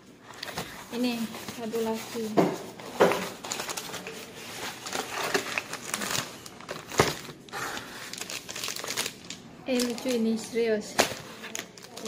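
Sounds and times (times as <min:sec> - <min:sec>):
packaging rustling and crinkling: 0:00.2 - 0:12.0.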